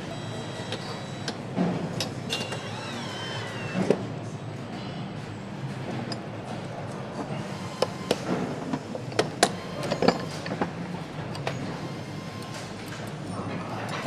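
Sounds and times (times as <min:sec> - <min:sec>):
factory hum: 0:00.0 - 0:14.0.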